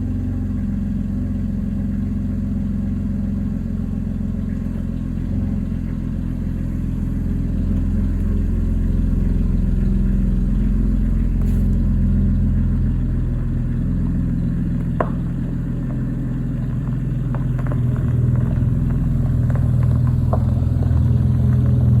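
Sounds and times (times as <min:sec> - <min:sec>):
unmuffled engine exhaust drone: 0:00.0 - 0:22.0.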